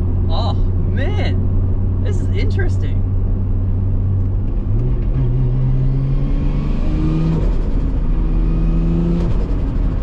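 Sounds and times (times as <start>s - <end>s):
car engine accelerating from cabin: 0.0s - 10.0s.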